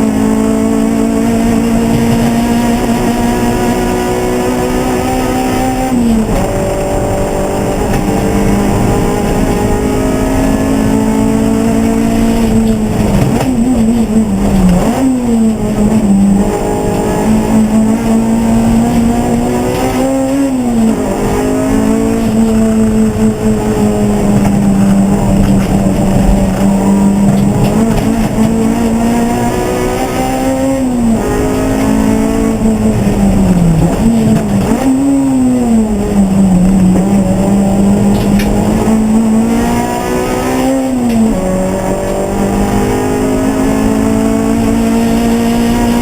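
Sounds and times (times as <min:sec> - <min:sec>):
race car engine at high revs: 0:00.0 - 0:46.0.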